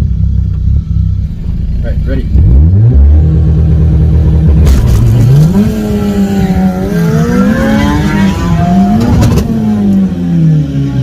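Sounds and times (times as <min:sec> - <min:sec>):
car engine accelerating hard: 0:01.3 - 0:11.0.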